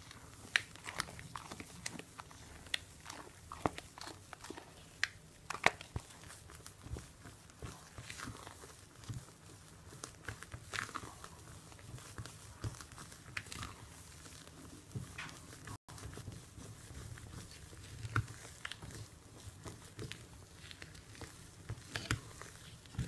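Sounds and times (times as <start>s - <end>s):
spatula squishing batter: 0.0s - 23.0s.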